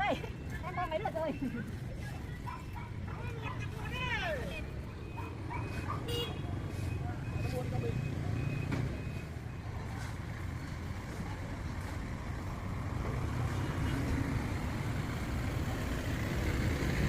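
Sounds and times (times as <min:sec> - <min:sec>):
motor vehicle low rumble: 0:00.0 - 0:17.0
road noise: 0:00.0 - 0:17.0.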